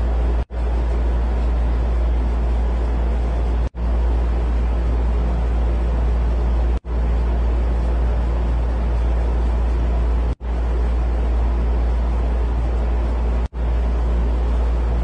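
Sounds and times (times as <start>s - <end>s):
deep rumbling drone with hiss: 0.0s - 15.0s.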